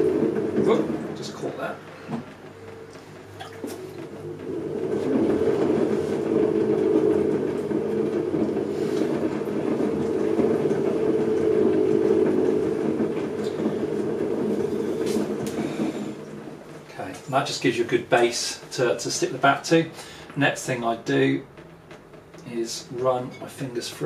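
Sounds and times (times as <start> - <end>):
potter's wheel rumbling drone: 0.0 - 24.0.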